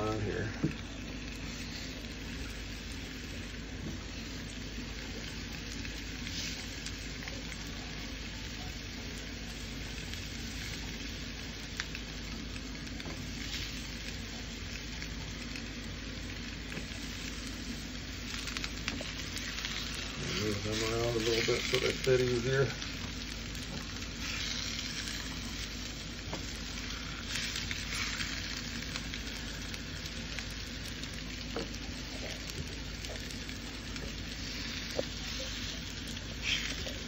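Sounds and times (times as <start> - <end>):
food sizzling on griddle: 0.0 - 37.0.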